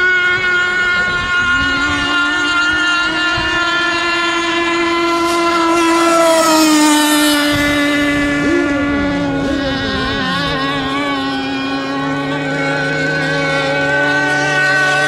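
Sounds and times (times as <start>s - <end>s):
model boat engine whining: 0.0s - 15.0s.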